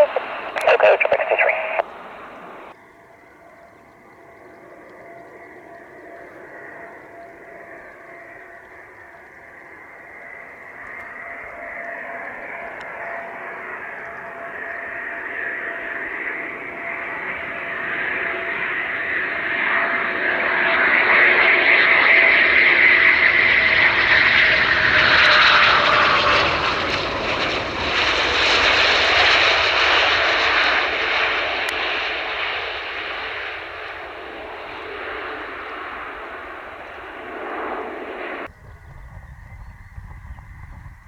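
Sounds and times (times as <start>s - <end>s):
jet passing close by: 0.0s - 2.8s, 4.7s - 41.0s.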